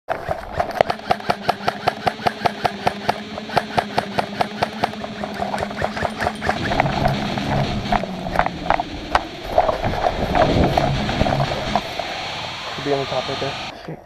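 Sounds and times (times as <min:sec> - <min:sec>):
sharp clicks: 0:00.1 - 0:13.7
steady low hum: 0:00.2 - 0:14.0.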